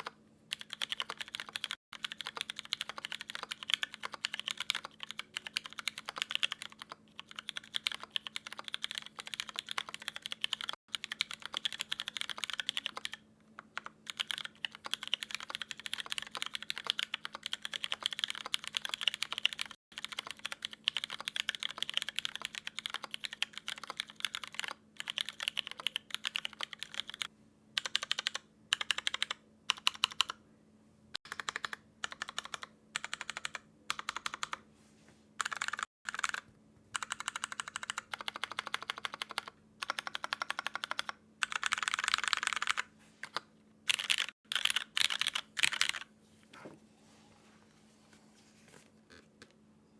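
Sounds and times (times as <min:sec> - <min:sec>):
typing on mechanical keyboard: 0:00.0 - 0:30.4, 0:31.2 - 0:34.6, 0:35.4 - 0:36.4, 0:37.0 - 0:46.1.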